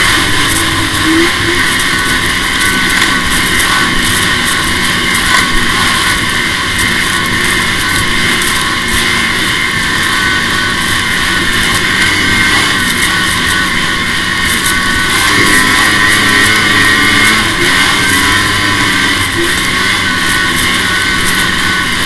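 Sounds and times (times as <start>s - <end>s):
snowmobile engine droning: 0.0s - 22.0s.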